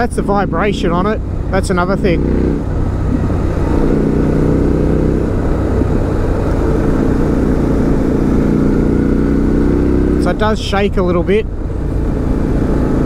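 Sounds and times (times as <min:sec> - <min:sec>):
motorcycle engine running: 0:00.0 - 0:13.0
wind and road rush: 0:00.0 - 0:13.0.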